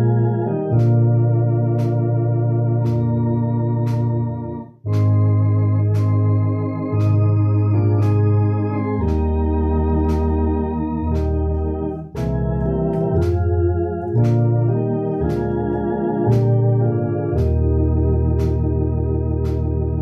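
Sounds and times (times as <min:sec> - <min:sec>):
electronic organ playing a hymn: 0:00.0 - 0:20.0
sharp beat clicks: 0:00.6 - 0:02.2, 0:02.8 - 0:18.8.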